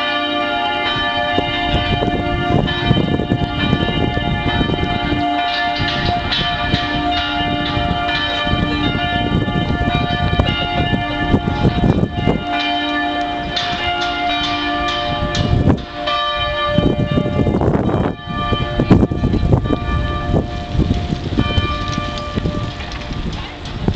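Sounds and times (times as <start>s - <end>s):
church bells ringing: 0.0s - 23.9s.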